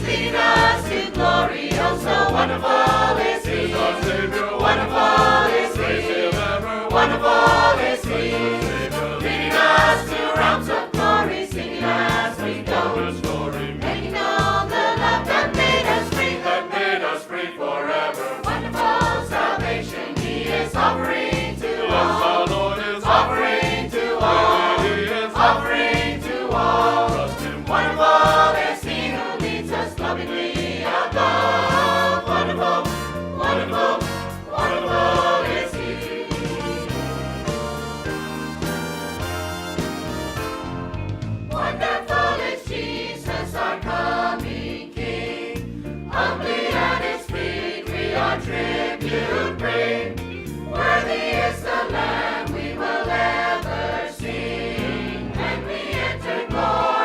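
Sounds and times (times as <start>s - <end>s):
rhythmic bass line: 0.0s - 16.5s, 18.4s - 57.0s
choir singing a hymn: 0.0s - 38.2s, 41.5s - 57.0s
instrumental accompaniment: 0.0s - 57.0s.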